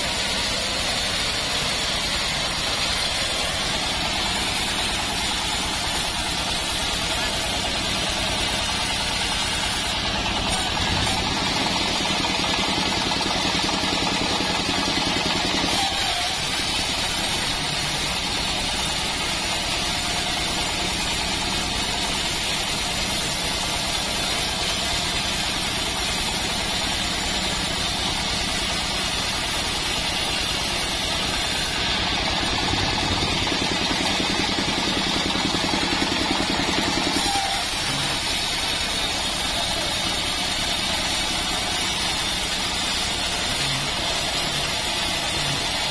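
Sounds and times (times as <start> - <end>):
band saw cutting log: 0.0 - 45.9.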